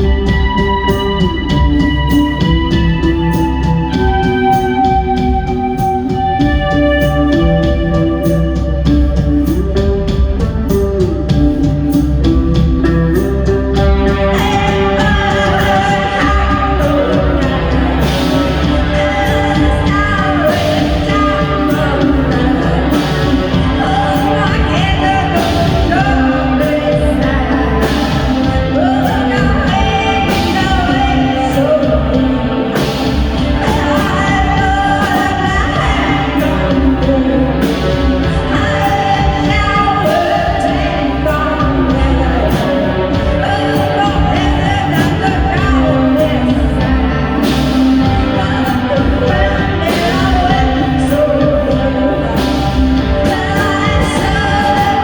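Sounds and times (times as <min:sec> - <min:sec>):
bass guitar: 0:00.0 - 0:55.0
singer with sustained vocal: 0:00.0 - 0:55.0.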